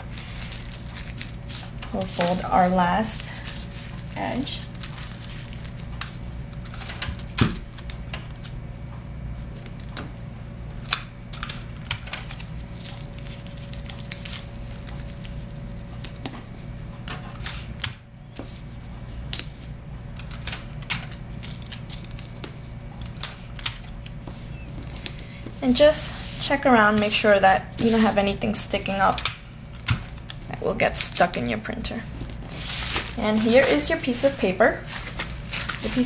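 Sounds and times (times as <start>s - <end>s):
paper and tape crinkling: 0.0s - 8.6s, 10.8s - 17.7s, 18.4s - 36.0s
steady low hum: 0.0s - 36.0s.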